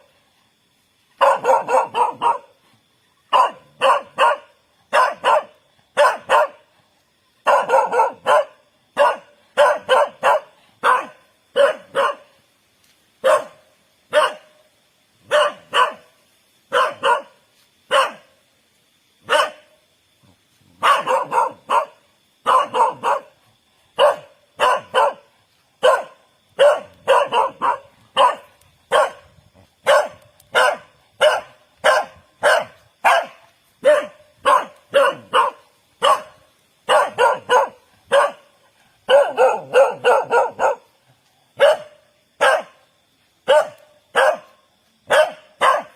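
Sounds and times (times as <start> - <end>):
dog barking: 1.2 - 2.5, 3.3 - 6.7, 7.4 - 12.3, 13.2 - 14.6, 15.2 - 18.3, 19.2 - 19.7, 20.8 - 23.4, 24.0 - 38.5, 39.1 - 41.0, 41.6 - 42.8, 43.4 - 45.9.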